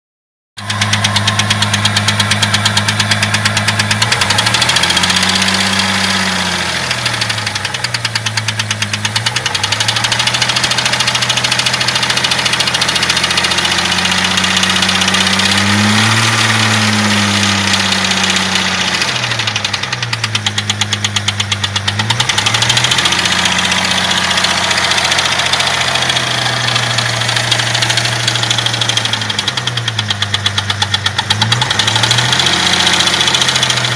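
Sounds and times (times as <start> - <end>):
car engine knocking: 0.6 - 33.9.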